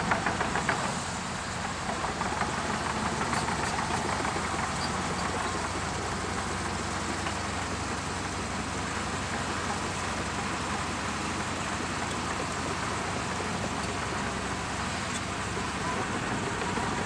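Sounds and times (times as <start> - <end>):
bulldozer diesel engine droning: 0.0 - 17.0.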